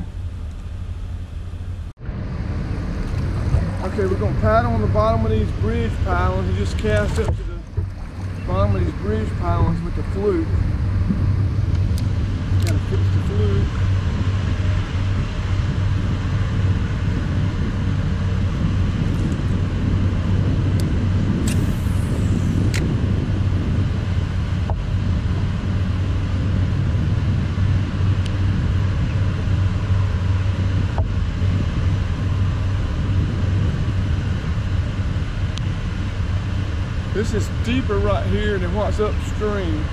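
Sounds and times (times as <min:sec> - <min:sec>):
low hum: 0:00.0 - 0:39.9
road traffic rumble on bridge: 0:00.0 - 0:39.9.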